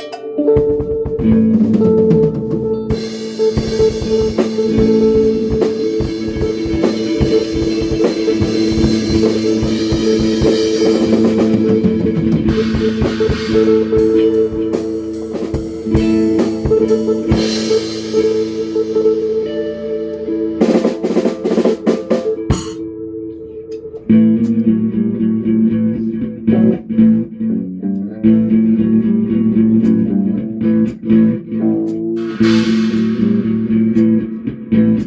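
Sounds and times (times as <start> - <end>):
drum kit with cymbal wash: 0.0 - 22.9, 28.3 - 35.0
sustained chords: 0.0 - 30.7, 31.3 - 35.0.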